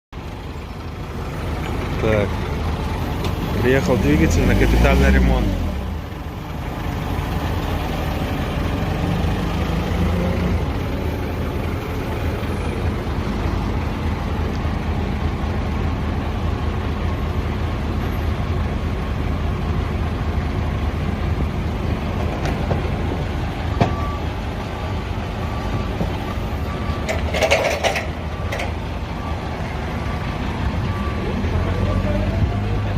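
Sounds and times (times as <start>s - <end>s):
truck engine rumbling: 0.1s - 32.9s.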